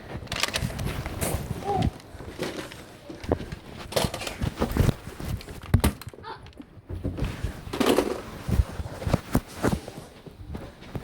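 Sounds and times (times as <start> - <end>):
irregular knocks and thuds: 1.1 - 11.0.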